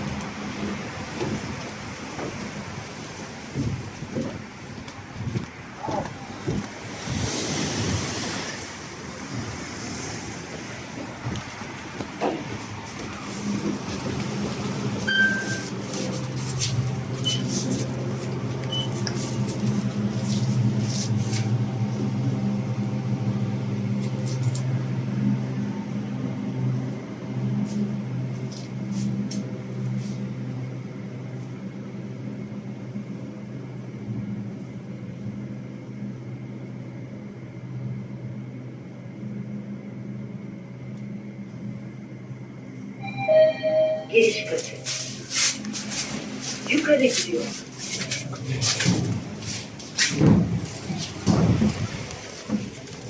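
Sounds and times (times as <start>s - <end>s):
lift machine hum: 8.9s - 53.0s.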